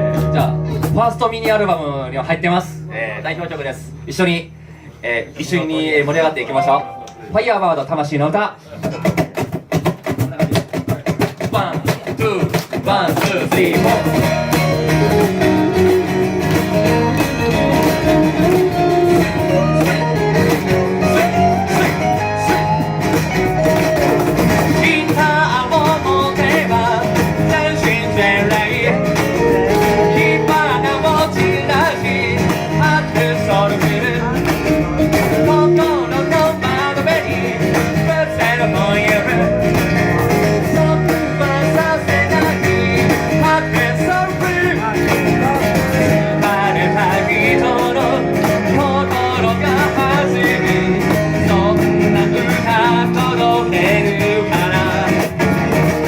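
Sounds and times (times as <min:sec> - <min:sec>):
blues-rock band playing: 0:00.0 - 0:02.0, 0:12.0 - 0:56.0.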